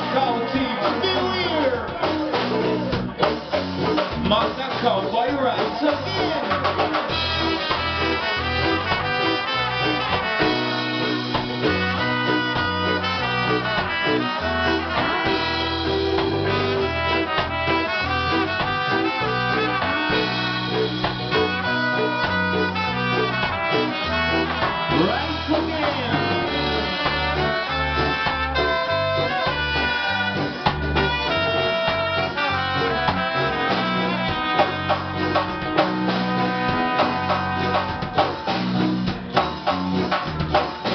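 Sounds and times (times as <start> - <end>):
live reggae band playing: 0.0 - 40.9
trombone and trumpet lead: 0.0 - 40.9.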